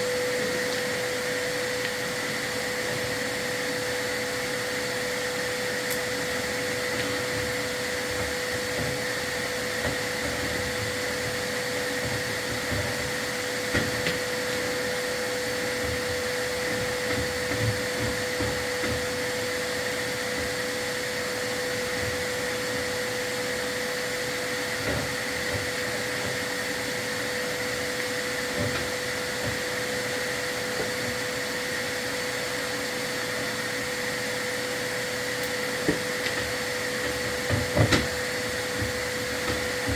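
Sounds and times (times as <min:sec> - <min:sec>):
vacuum motor humming: 0:00.0 - 0:39.9.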